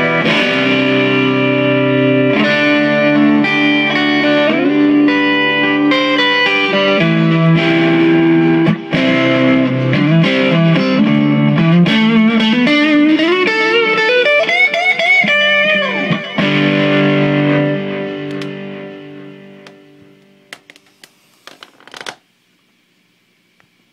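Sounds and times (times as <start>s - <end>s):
overdriven electric guitar: 0.0s - 20.8s.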